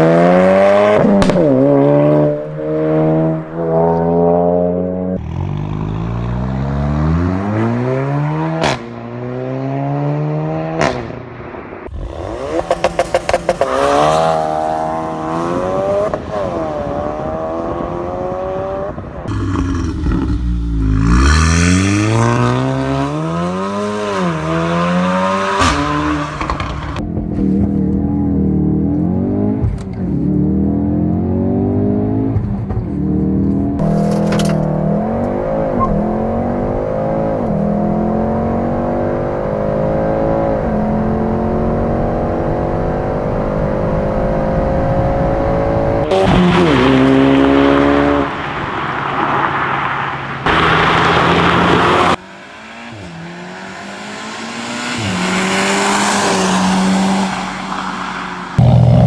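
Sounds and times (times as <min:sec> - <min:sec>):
car engine accelerating through gears: 0:00.0 - 0:11.2, 0:11.9 - 0:49.1.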